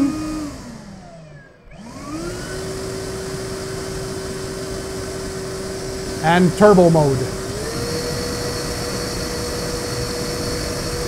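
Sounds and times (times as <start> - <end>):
vacuum motor whine: 0.0 - 6.2, 7.4 - 11.0.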